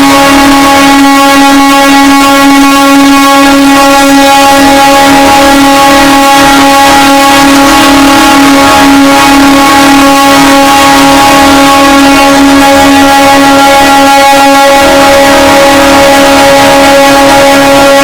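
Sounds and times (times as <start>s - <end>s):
train horn blast: 0.0s - 18.0s.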